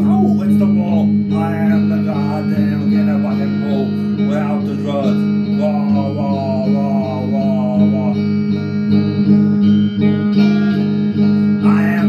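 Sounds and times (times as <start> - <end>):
electric guitar strumming: 0.0 - 12.0.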